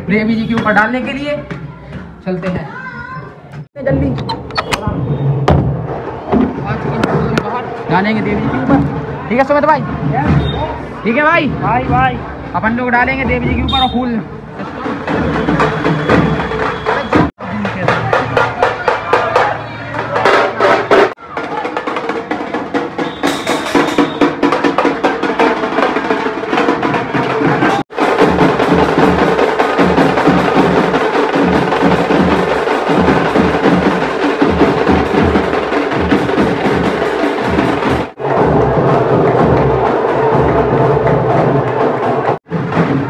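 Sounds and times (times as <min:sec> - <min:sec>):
drums playing fast rhythm: 0:03.7 - 0:43.0.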